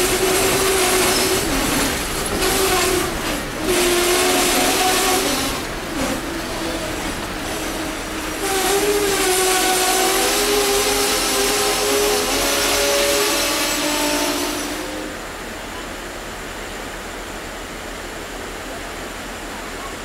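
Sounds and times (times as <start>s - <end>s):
train rolling noise: 0.0s - 20.0s.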